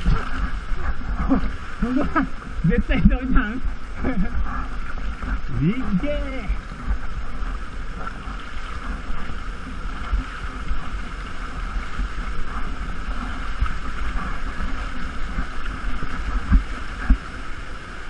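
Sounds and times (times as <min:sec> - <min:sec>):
low thumps of water: 0:00.0 - 0:18.0
waterfall and stream rushing: 0:00.0 - 0:18.0
wind buffeting microphone: 0:00.0 - 0:18.0.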